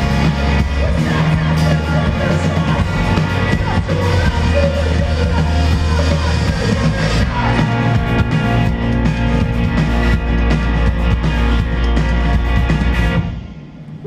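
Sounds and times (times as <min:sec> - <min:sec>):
hardcore band playing live: 0:00.0 - 0:14.0.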